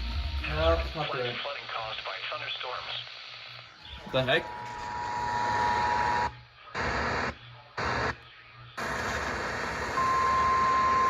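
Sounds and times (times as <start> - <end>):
radio static: 0.6 - 10.0.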